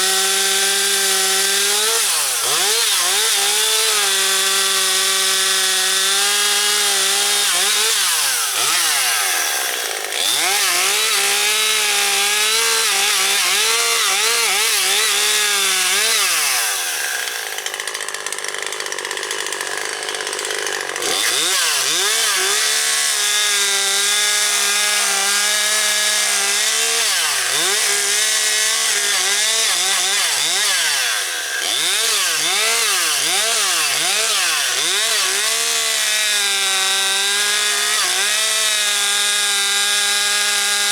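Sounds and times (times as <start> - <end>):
chainsaw cutting branches: 0.0 - 40.9.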